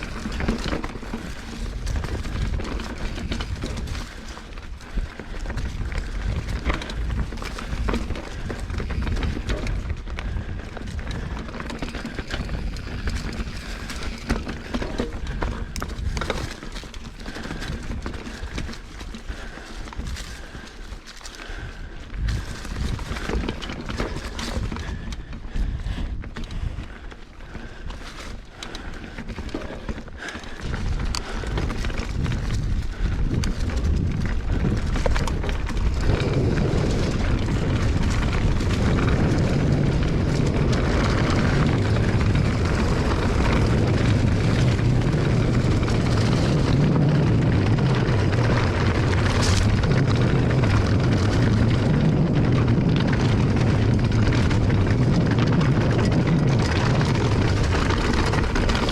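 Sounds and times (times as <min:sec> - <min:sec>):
knocks and rattles on rough trail: 0:00.0 - 0:58.9
wind buffeting microphone: 0:00.0 - 0:58.9.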